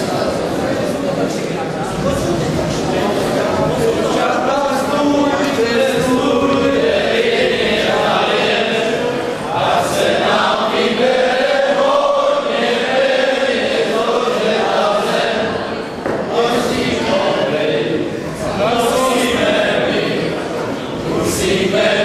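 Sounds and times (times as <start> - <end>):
young men singing together: 3.2 - 22.0.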